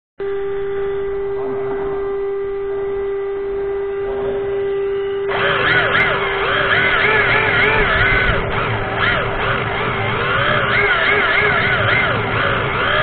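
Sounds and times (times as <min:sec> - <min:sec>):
electric toy car motor whining: 0:01.2 - 0:13.0.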